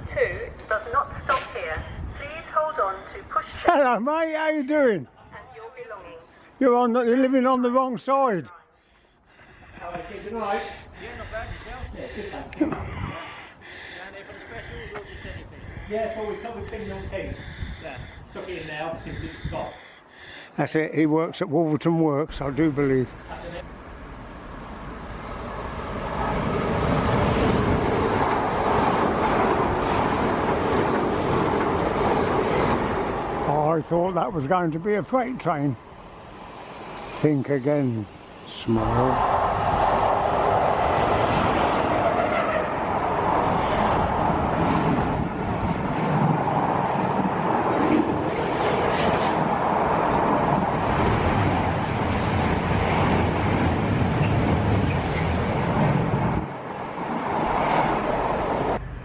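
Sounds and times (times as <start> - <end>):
train rumbling past: 9.3 - 20.4, 22.2 - 59.0.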